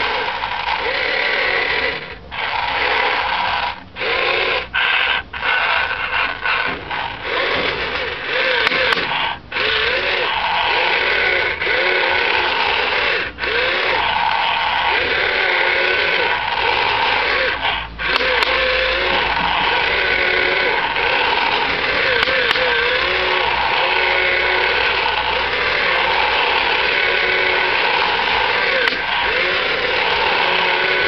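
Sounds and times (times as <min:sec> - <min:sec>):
motor whine: 0:00.0 - 0:31.0
toy motors whirring: 0:00.0 - 0:31.0.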